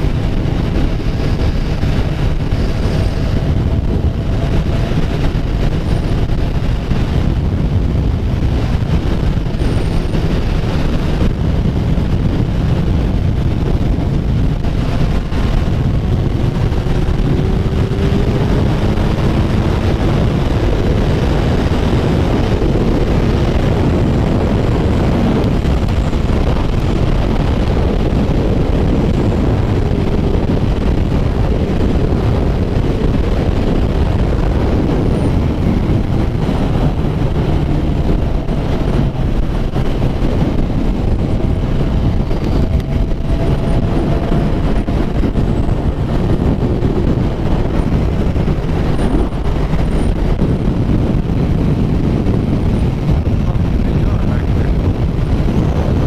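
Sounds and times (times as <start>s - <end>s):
motorcycle engine: 0.0s - 56.0s
wind rushing over microphone: 0.0s - 56.0s.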